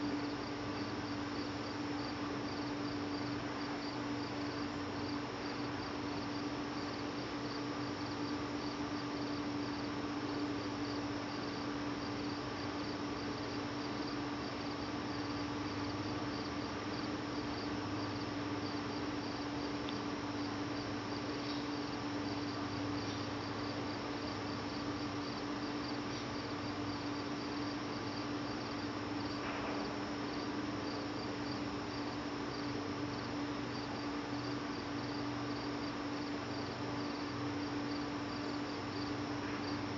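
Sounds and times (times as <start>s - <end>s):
crickets chirping: 0.0s - 39.9s
steady low hum: 0.0s - 39.9s.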